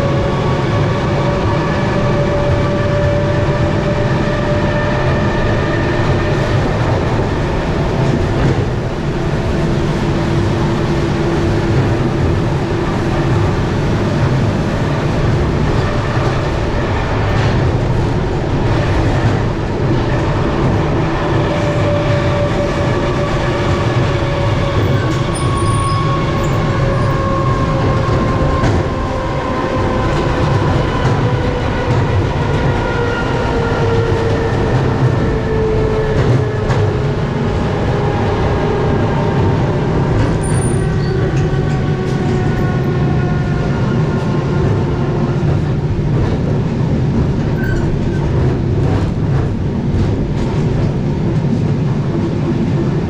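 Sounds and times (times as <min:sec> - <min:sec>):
clickety-clack of rail joints: 0:00.0 - 0:53.0
train wheels rumbling on rails: 0:00.0 - 0:53.0.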